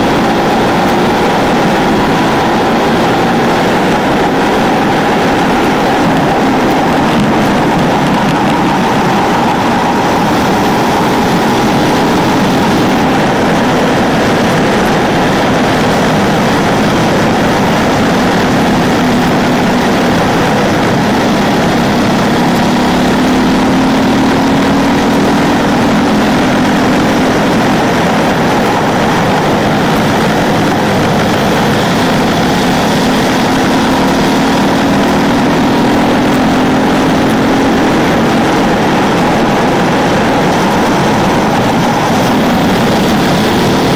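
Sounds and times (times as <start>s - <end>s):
motorcycle engine at speed: 0.0s - 43.9s
wind noise: 0.0s - 43.9s.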